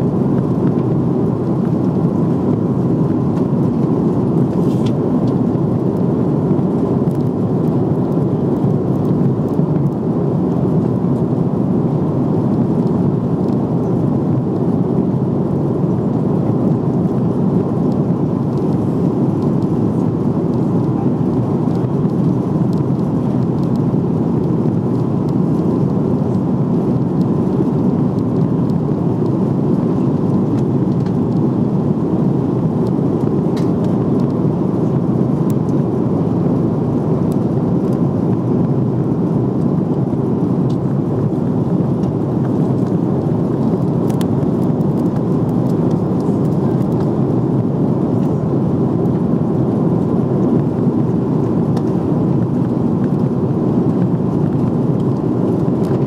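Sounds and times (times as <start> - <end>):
airplane cabin airflow and engine: 0.0 - 56.0.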